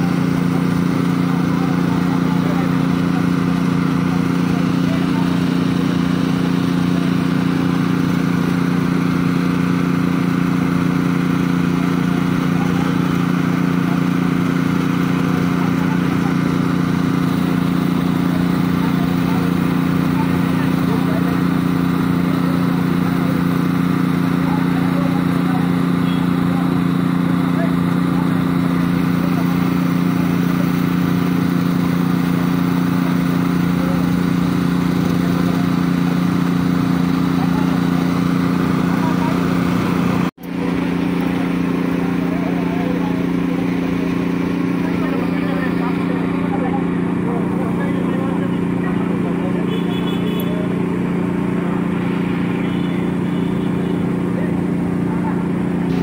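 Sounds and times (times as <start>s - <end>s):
small petrol engine running: 0.0s - 56.0s.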